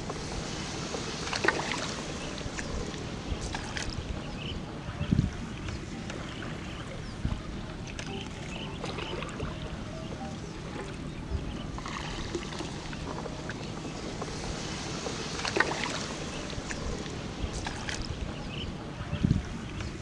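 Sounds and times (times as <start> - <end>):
paddle pulling through water: 0.0 - 20.0
water splashing: 0.0 - 20.0
wind on microphone: 0.0 - 20.0.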